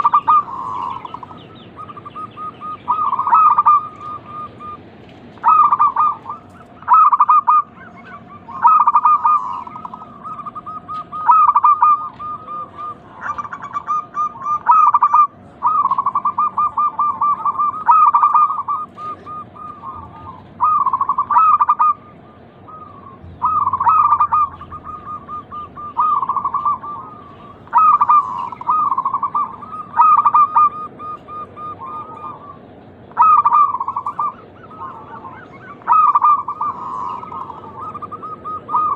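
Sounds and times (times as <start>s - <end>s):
doves cooing: 0.0s - 38.9s
faint birds answering: 0.0s - 38.9s.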